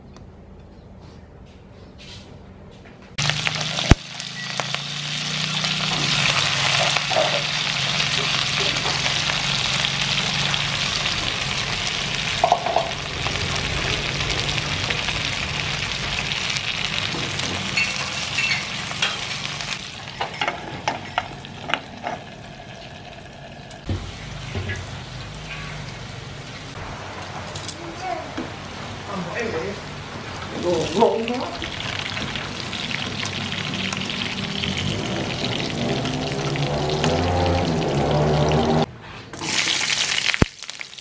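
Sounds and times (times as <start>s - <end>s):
chillies sizzling in hot oil: 3.2s - 41.0s.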